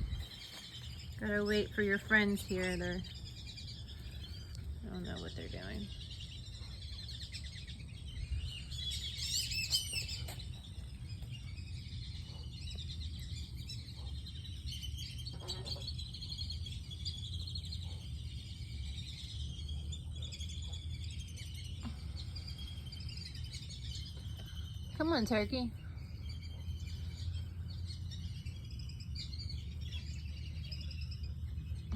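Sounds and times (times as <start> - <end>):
steady low rumble: 0.0 - 9.2, 10.0 - 31.9
birds chirping: 0.0 - 31.9.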